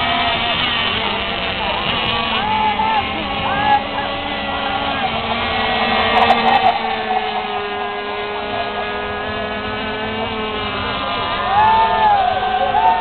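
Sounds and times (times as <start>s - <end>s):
racing powerboat engines whining: 0.0s - 13.0s.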